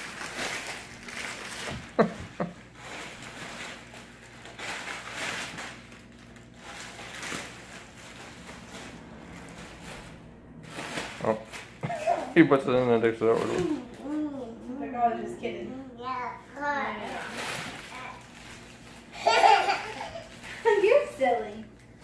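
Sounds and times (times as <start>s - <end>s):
bubble wrap crinkling: 0.0s - 14.4s, 16.6s - 22.0s.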